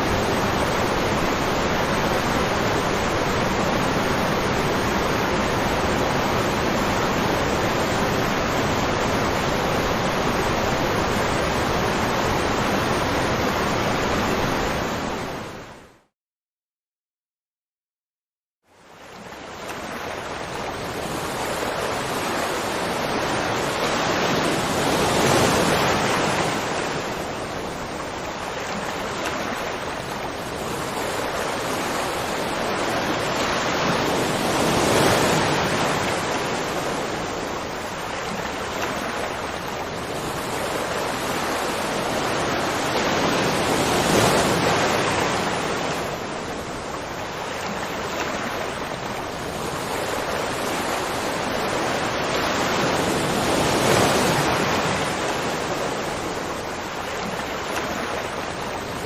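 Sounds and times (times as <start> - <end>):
rushing water: 0.0 - 16.1, 18.7 - 59.0.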